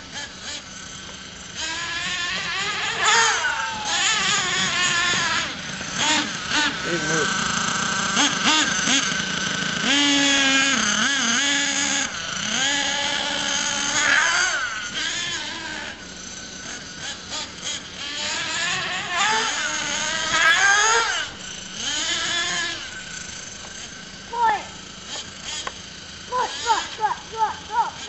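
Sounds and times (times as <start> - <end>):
model truck engine revving: 0.0 - 28.0.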